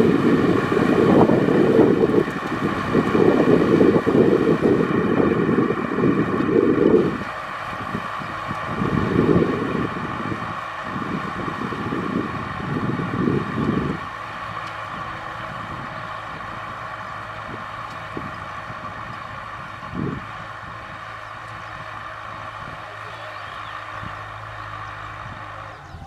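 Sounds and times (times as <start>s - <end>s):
tractor diesel engine under load: 0.0s - 26.0s
wind buffeting microphone: 0.0s - 26.0s.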